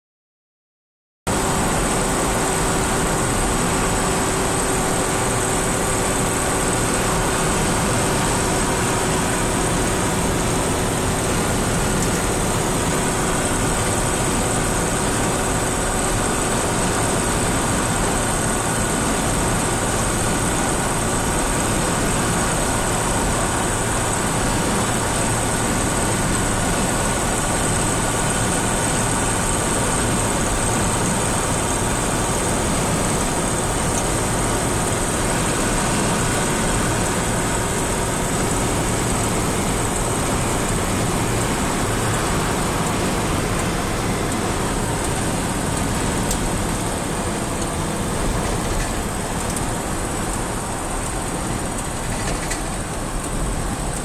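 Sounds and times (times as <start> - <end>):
car road and engine rumble: 1.3 - 54.0.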